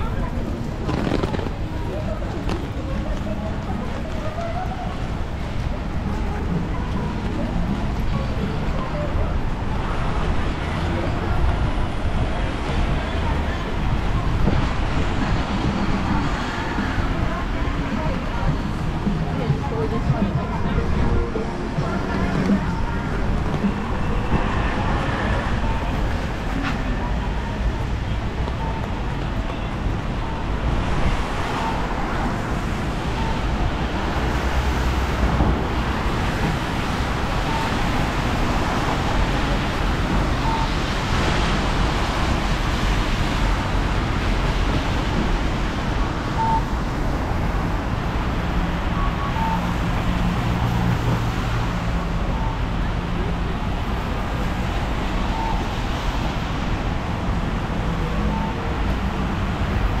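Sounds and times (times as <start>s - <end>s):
rain noise: 0.0s - 60.0s
traffic on wet roads: 0.0s - 60.0s.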